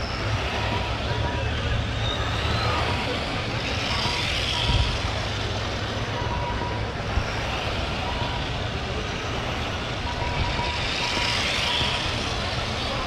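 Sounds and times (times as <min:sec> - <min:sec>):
rc cars racing: 0:00.0 - 0:13.0.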